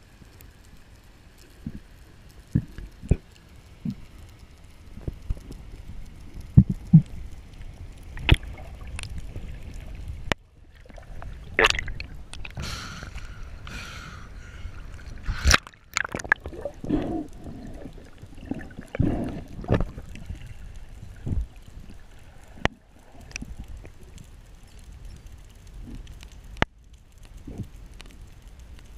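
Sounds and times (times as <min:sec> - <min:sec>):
underwater rumble: 0:00.0 - 0:28.9
water splashing and sloshing: 0:00.1 - 0:26.7.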